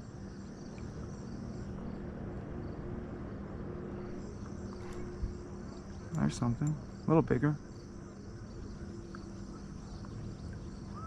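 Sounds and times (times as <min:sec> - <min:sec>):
insects chirping: 0:00.0 - 0:11.0
steady low hum: 0:00.0 - 0:11.0.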